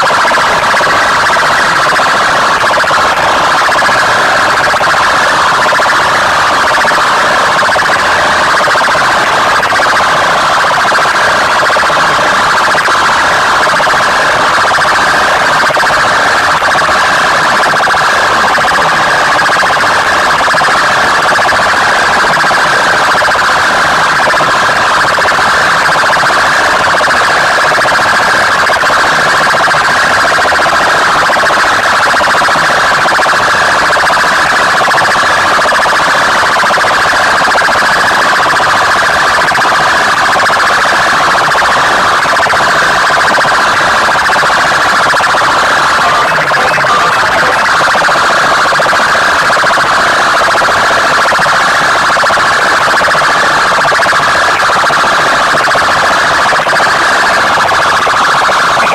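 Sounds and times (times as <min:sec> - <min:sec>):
loudspeakers blasting loud blare: 0:00.0 - 0:58.9.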